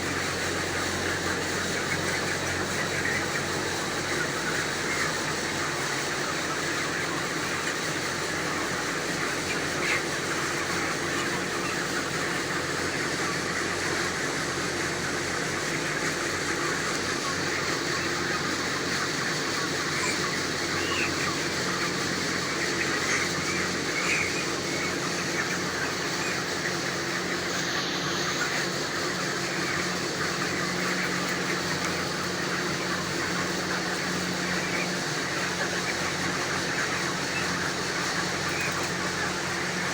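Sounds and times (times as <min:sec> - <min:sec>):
chickens chirping: 0:00.0 - 0:39.9.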